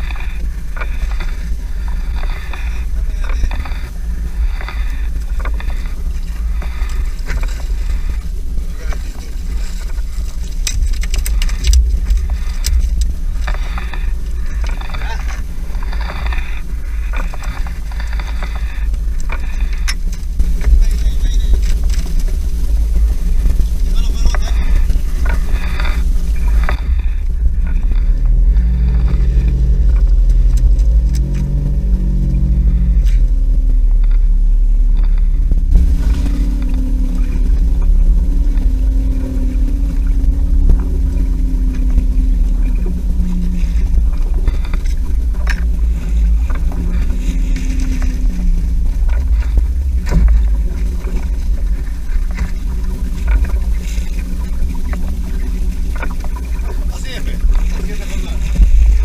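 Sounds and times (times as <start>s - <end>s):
boat motor rumbling: 0.0s - 59.0s.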